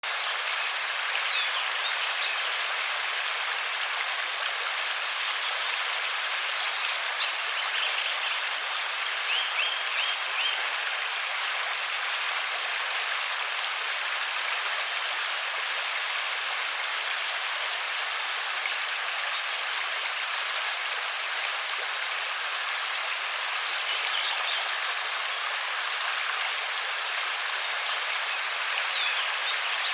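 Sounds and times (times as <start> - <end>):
river water rushing: 0.0 - 29.9
small birds chirping: 0.1 - 19.5, 21.8 - 29.9.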